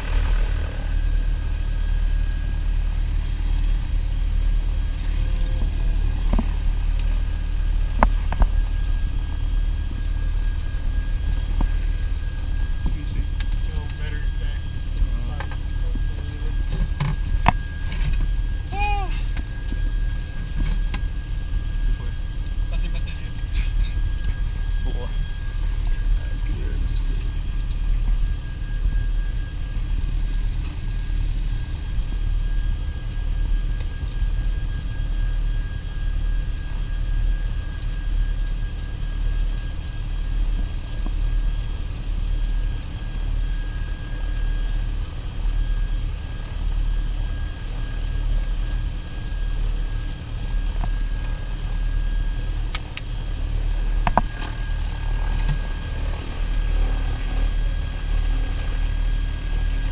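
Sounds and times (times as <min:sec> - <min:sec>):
twin piston engines droning: 0:00.0 - 0:59.9.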